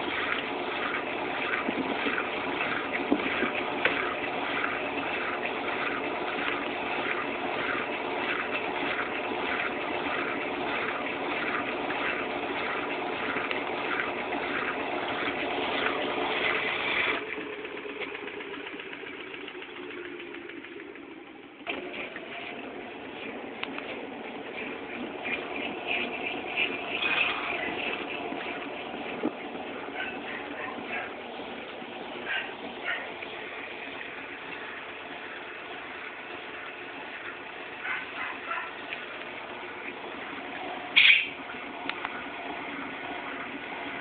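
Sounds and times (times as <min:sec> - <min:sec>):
drum slowing hum: 0:00.0 - 0:44.0
washing machine spinning: 0:00.0 - 0:44.0.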